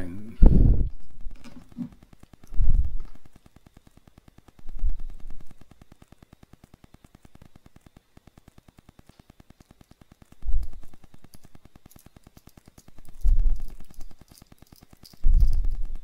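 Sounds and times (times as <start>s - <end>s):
tiny screw clicks: 1.0s - 16.0s
faint rapid ticking: 1.1s - 16.0s.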